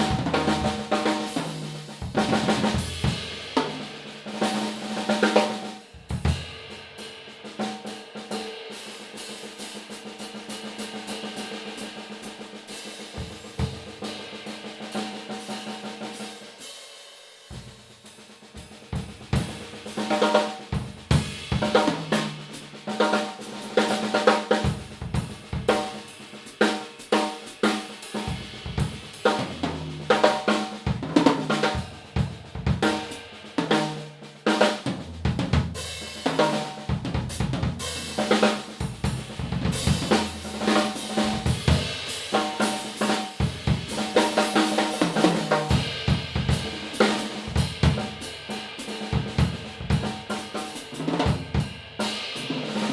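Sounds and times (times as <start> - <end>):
drum kit playing: 0.0 - 52.9.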